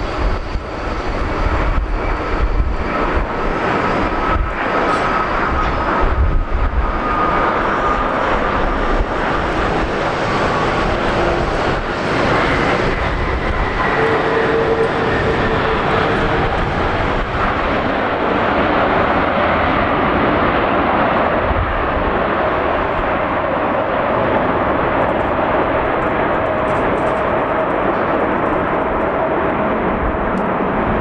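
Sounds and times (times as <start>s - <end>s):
jet engine rush: 0.0s - 31.0s.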